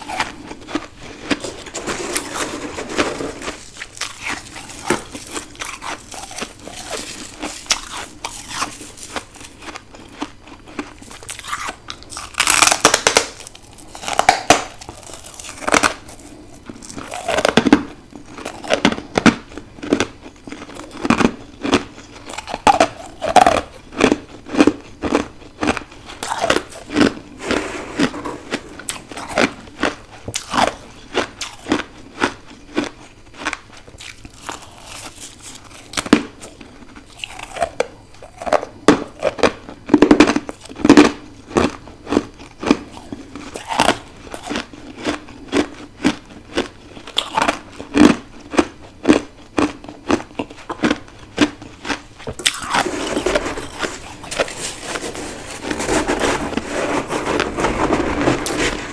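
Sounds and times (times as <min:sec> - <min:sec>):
frost crunching being chewed: 0:00.0 - 0:58.9.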